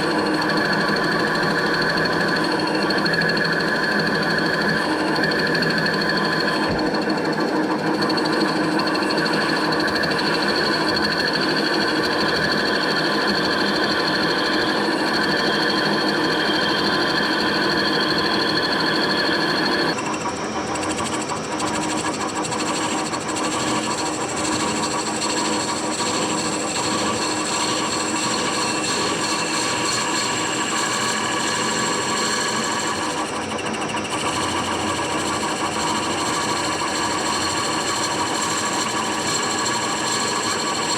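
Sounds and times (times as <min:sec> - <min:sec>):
lathe motor whine: 0:00.0 - 0:40.9
wood being cut on lathe: 0:00.0 - 0:40.9.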